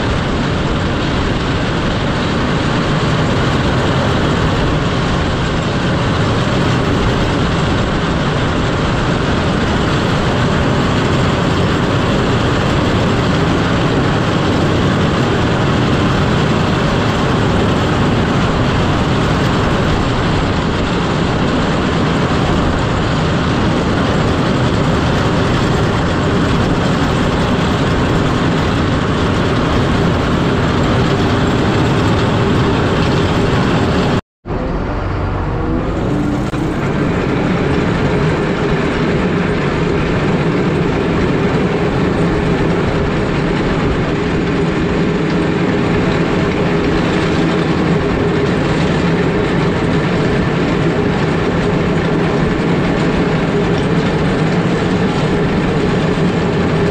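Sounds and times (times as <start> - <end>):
diesel engine: 0.0 - 56.9.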